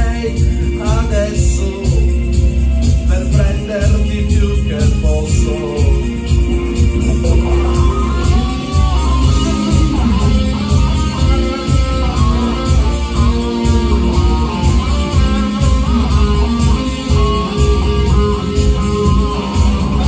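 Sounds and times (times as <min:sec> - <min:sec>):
electric guitar melody: 0:00.0 - 0:20.0
low bass backing: 0:00.0 - 0:20.0.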